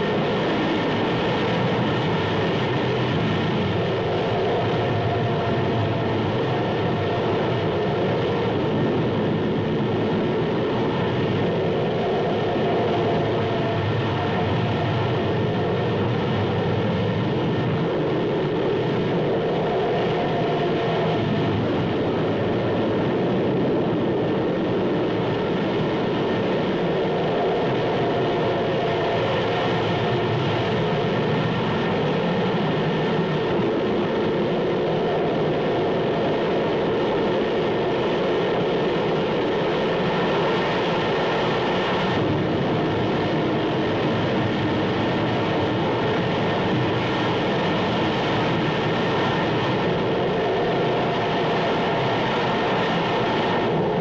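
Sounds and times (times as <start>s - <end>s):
loud roar of rushing gas: 0.0s - 54.0s.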